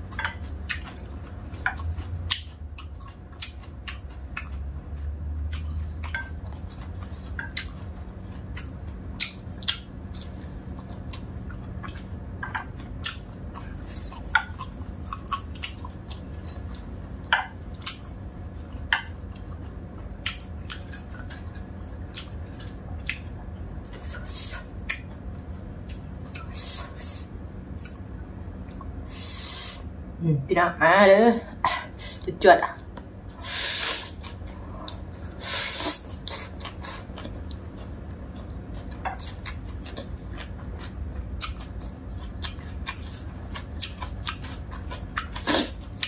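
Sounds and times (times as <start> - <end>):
chewing dry noodles: 0.0 - 27.1, 33.0 - 46.0
low steady hum: 0.0 - 46.0.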